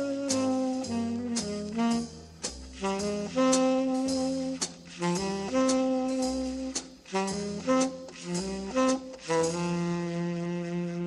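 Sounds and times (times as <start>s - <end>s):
pulsing bass line: 0.0s - 10.6s
saxophone melody: 0.0s - 11.0s.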